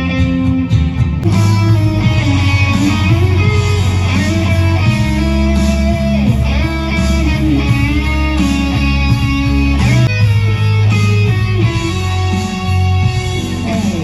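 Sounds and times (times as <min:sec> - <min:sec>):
deep low backing: 0:00.0 - 0:14.0
electric guitar lead with bends: 0:00.0 - 0:14.0.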